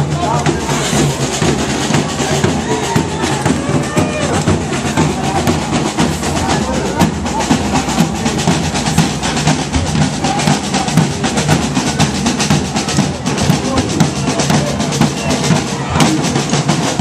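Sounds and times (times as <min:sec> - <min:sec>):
parade drums beating: 0:00.0 - 0:17.0.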